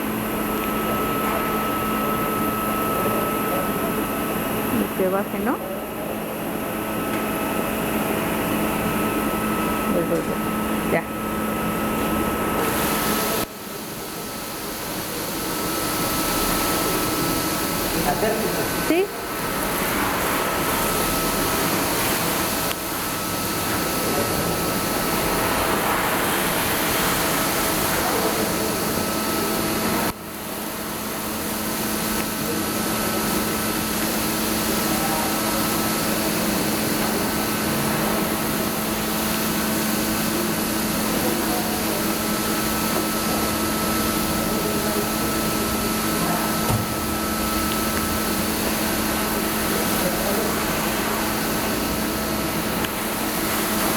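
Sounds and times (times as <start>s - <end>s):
industrial vacuum cleaner running: 0.0s - 53.9s.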